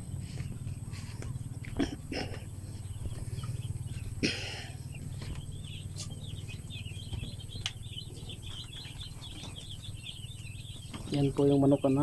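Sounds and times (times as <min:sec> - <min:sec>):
chicks peeping: 0:00.0 - 0:12.0
low steady rumble: 0:00.0 - 0:12.0.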